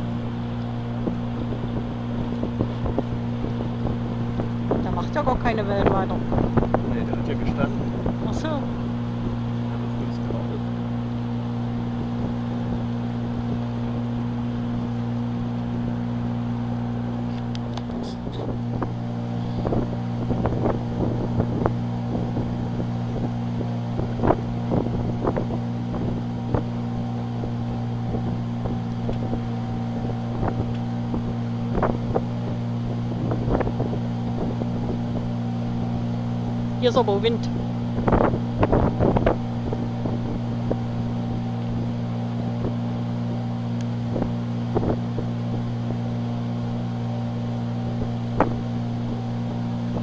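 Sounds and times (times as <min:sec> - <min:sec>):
motorboat engine humming: 0:00.0 - 0:50.0
wind on microphone: 0:00.0 - 0:50.0.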